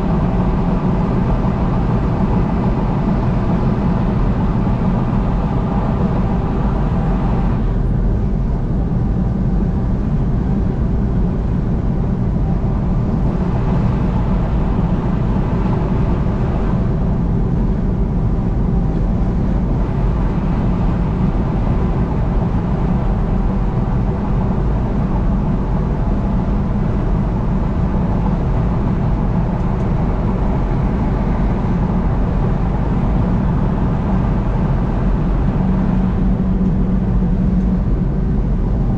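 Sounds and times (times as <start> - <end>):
low engine drone: 0.0 - 38.9.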